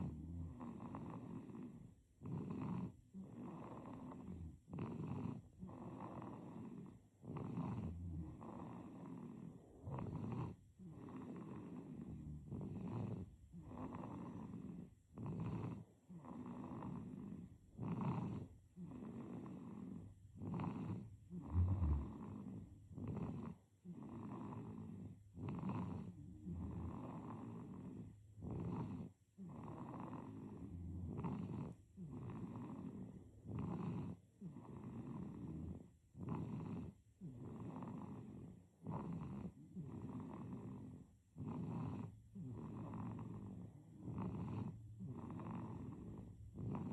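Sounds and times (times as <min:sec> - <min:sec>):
baby snoring: 0:00.0 - 0:46.9.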